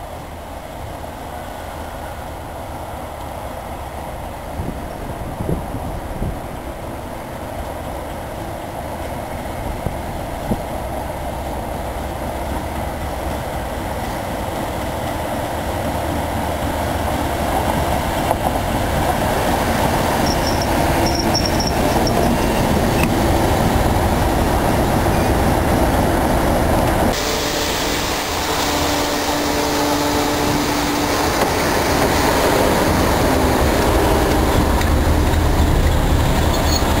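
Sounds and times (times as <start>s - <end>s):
diesel locomotive engine: 0.0s - 37.0s
train wheels on rails: 0.0s - 37.0s.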